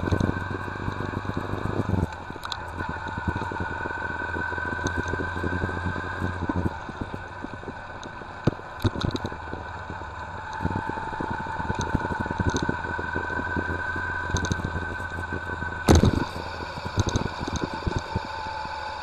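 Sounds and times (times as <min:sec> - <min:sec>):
high-pitched whine: 0:00.0 - 0:19.0
motorcycle engine running: 0:00.0 - 0:19.0
sharp ticks: 0:00.0 - 0:19.0.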